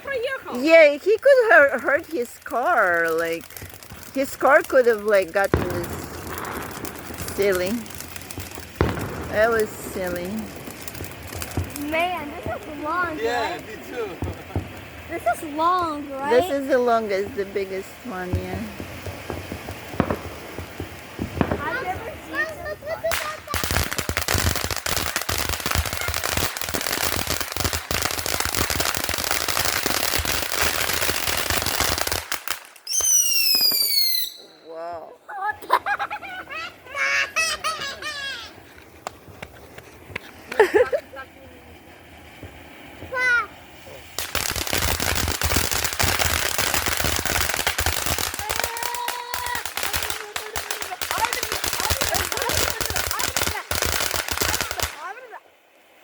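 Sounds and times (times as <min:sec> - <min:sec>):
firework cracks and pops: 0:00.0 - 0:34.7, 0:35.5 - 0:56.0.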